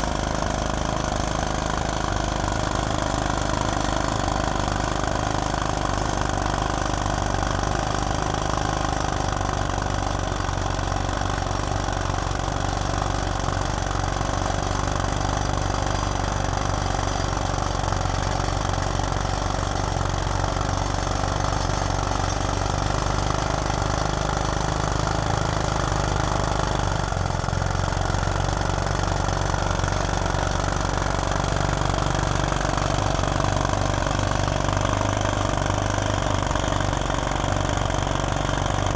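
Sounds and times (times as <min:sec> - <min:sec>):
drill rig engine running: 0:00.0 - 0:38.9.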